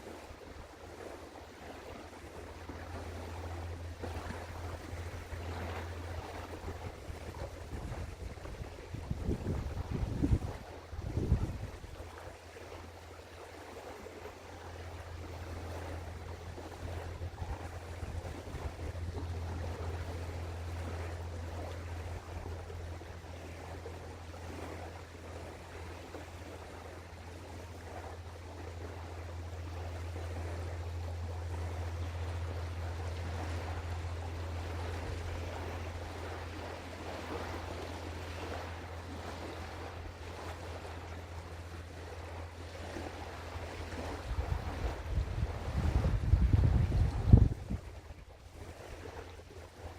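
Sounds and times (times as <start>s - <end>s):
low hum: 0.0s - 49.9s
rushing river water: 0.0s - 49.9s
wind: 0.0s - 49.9s.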